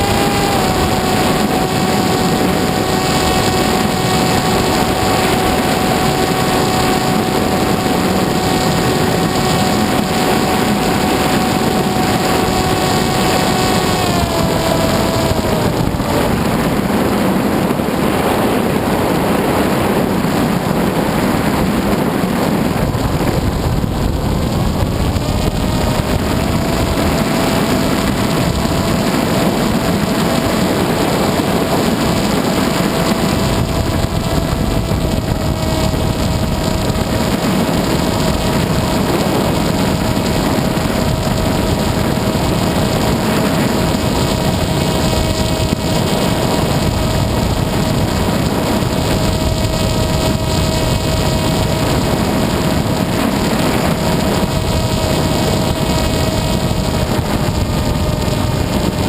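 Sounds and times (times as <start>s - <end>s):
motor and propeller whine: 0.0s - 59.0s
wind rush on microphone: 0.0s - 59.0s.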